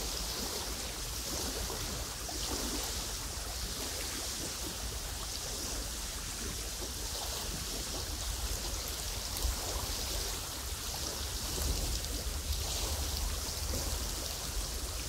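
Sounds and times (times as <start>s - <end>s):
wind and water hissing: 0.0s - 15.0s.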